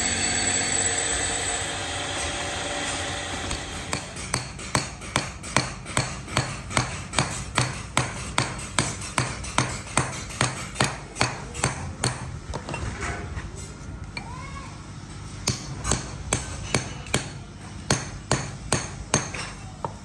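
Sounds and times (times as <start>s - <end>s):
hammer striking steel on anvil: 0.0s - 12.3s, 15.4s - 19.7s.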